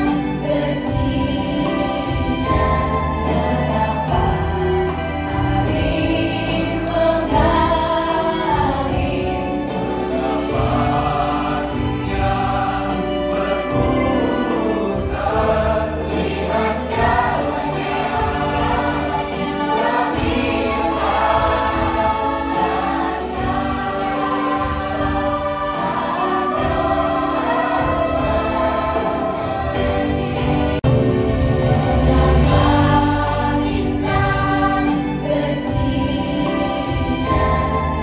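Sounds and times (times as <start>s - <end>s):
song with sung vocals: 0.0s - 38.0s.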